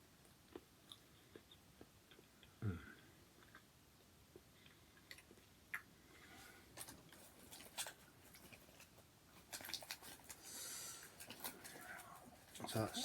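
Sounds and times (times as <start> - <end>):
person chewing chocolate: 0.2 - 12.9.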